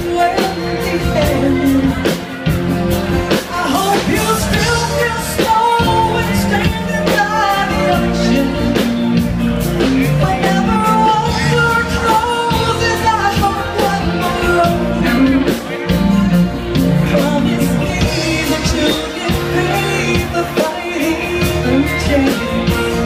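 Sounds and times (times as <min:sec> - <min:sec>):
live band playing upbeat song: 0:00.0 - 0:23.0
person singing: 0:00.0 - 0:23.0
steady drum beat: 0:00.0 - 0:23.0.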